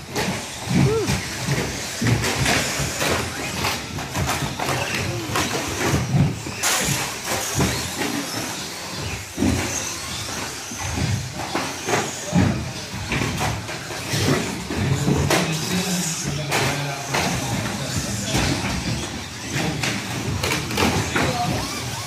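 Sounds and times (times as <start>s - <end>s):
rc truck motors whining: 0.0s - 22.0s.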